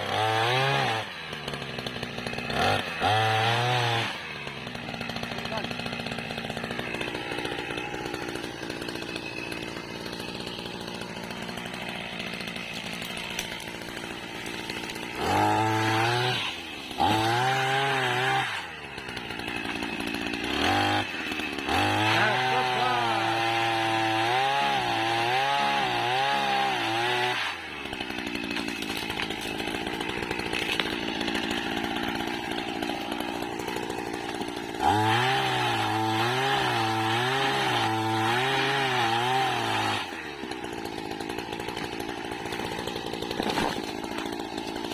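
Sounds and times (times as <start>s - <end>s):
small two-stroke engine revving: 0.0s - 44.9s.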